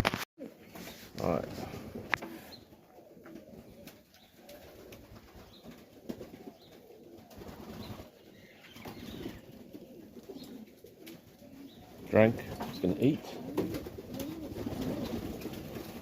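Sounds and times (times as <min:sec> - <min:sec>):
pigeons cooing: 0:00.4 - 0:16.0.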